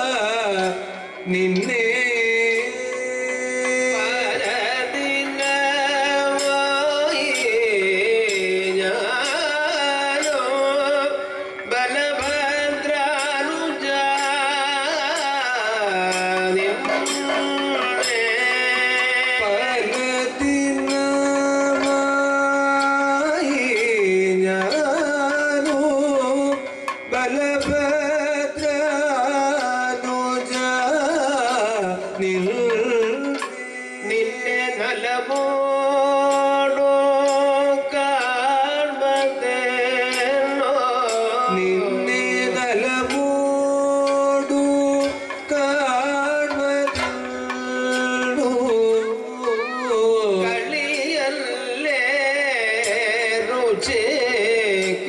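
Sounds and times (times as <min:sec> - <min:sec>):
drum: 0:00.0 - 0:34.6, 0:39.2 - 0:55.0
man singing with ornamented notes: 0:00.0 - 0:55.0
sharp rhythmic strikes: 0:00.0 - 0:55.0.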